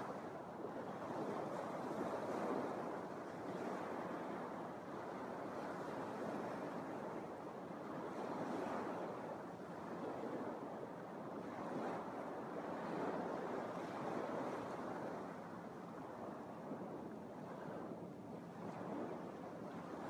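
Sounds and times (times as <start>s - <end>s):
waves lapping on a sandy beach: 0.0s - 20.0s.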